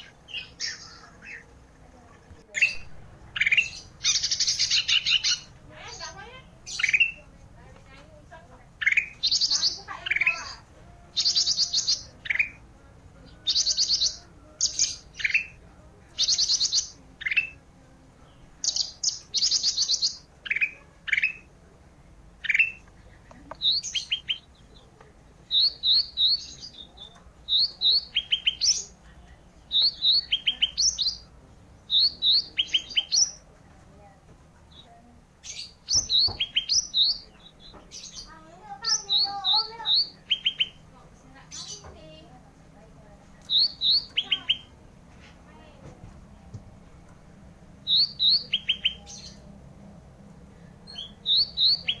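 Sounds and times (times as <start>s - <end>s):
bird singing high trills: 0.0s - 21.6s, 22.4s - 33.5s, 34.7s - 42.3s, 43.3s - 44.8s, 47.8s - 49.6s, 50.4s - 52.0s.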